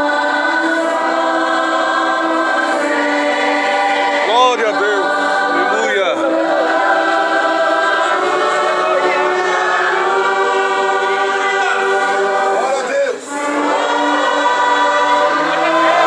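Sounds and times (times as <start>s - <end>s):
church orchestra playing: 0.0s - 16.0s
congregation and choir singing hymn: 0.0s - 16.0s.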